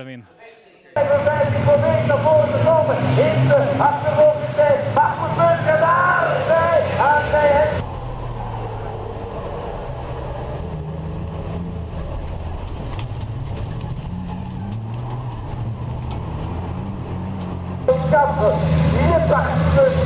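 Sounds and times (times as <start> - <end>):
diesel engines droning: 1.0 - 20.0.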